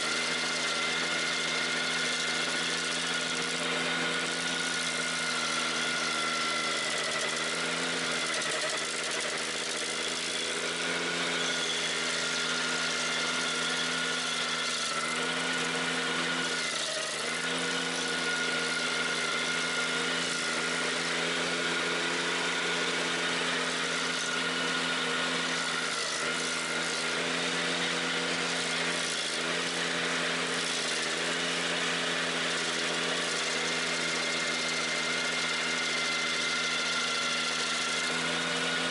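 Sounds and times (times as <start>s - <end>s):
stump grinder grinding hiss: 0.0s - 38.9s
tractor engine running: 0.0s - 38.9s.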